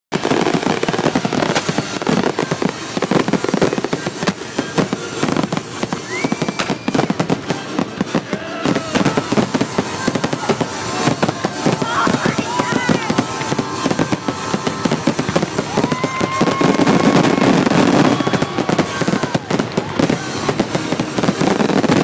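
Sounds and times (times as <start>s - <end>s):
fireworks cracking and banging: 0.1s - 22.0s
high firework whistle: 0.2s - 22.0s.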